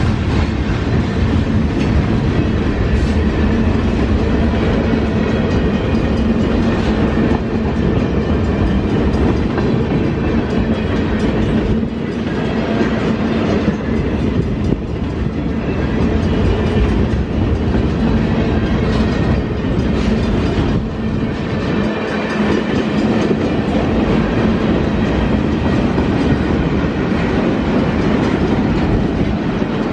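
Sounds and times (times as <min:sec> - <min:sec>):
train cars rumbling past: 0:00.0 - 0:29.9.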